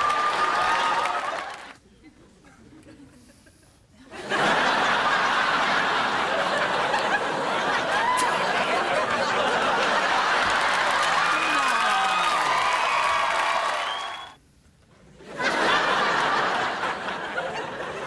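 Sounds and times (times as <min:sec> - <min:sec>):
audience laughing: 0:00.1 - 0:12.5, 0:15.2 - 0:18.0.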